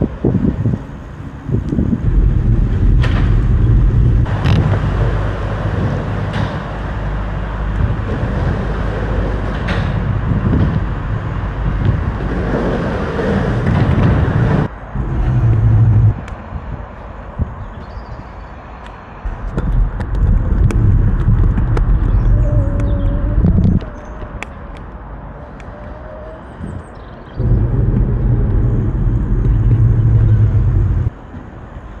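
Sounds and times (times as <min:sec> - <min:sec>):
wind and road rumble from bicycle: 0:00.0 - 0:32.0.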